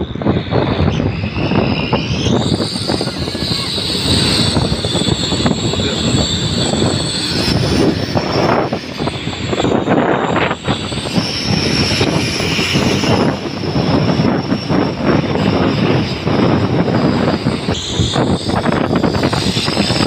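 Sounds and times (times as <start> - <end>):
engine rumble: 0.0 - 20.0
high jet-like exhaust whistle: 0.0 - 20.0.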